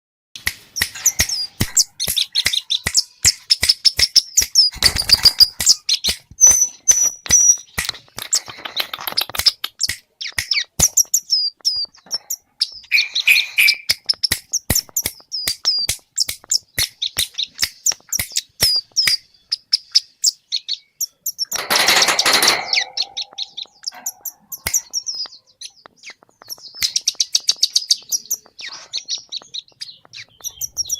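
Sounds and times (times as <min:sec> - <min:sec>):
bird singing high sharp chirps: 0:00.4 - 0:30.9.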